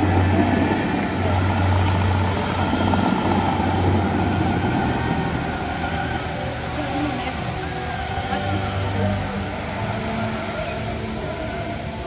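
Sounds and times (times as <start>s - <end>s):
deep rumble: 0.0s - 12.0s
water jets rushing: 0.0s - 12.0s.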